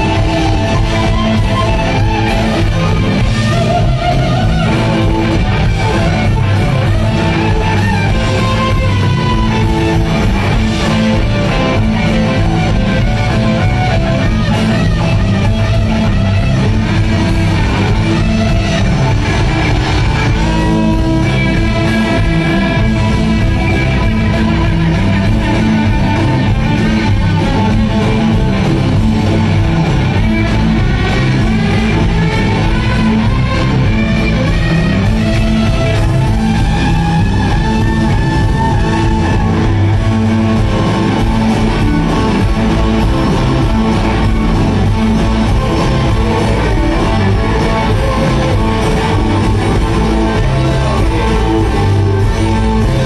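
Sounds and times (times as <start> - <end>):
drums with steady beat: 0.0 - 53.0
electric guitars: 0.0 - 53.0
lead guitar bending notes: 0.0 - 53.0.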